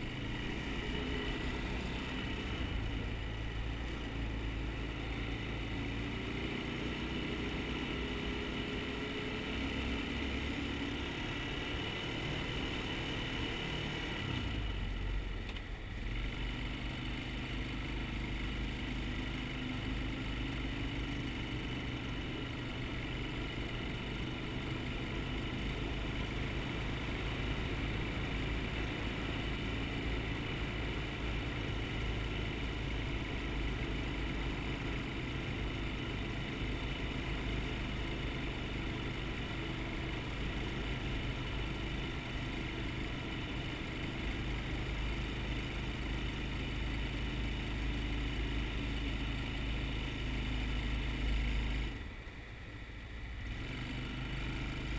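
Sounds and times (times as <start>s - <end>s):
quad bike engine running: 0.0s - 54.9s.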